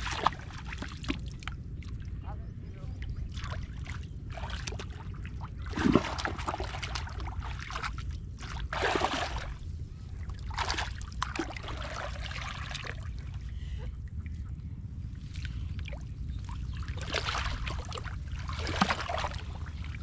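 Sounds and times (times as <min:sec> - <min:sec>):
muddy water splashing: 0:00.0 - 0:02.4, 0:03.0 - 0:14.5, 0:15.1 - 0:20.0
low rumble: 0:00.0 - 0:20.0.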